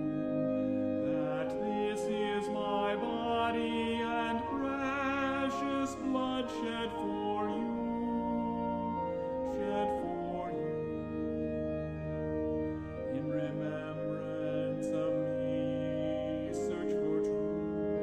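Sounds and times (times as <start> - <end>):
instrumental accompaniment: 0.0 - 18.0
person singing with vibrato: 1.0 - 11.2, 13.1 - 18.0.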